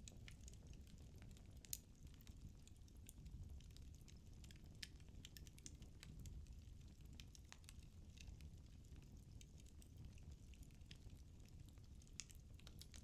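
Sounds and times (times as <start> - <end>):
soft low fire rumble: 0.0 - 13.0
firewood crackling and popping: 0.1 - 13.0.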